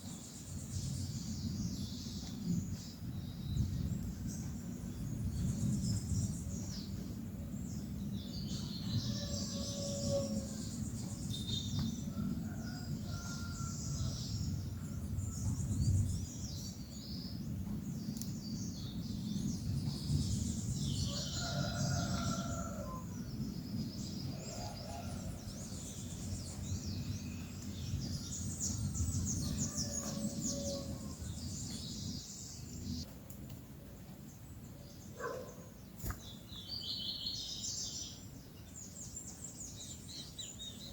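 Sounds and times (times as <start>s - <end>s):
birds chirping and calling: 0.2s - 33.1s.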